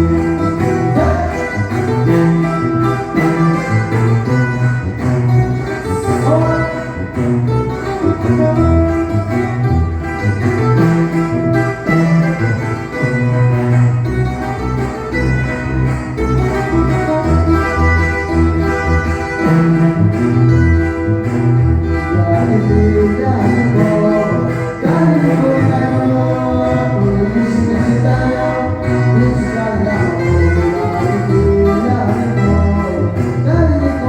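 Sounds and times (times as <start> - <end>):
tuba band playing: 0.0 - 34.0
tuba bass line: 0.0 - 34.0.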